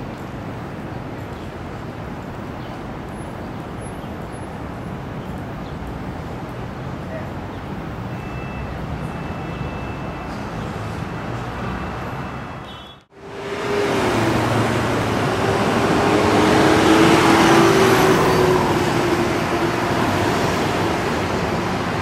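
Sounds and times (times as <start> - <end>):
traffic passing: 0.0 - 22.0.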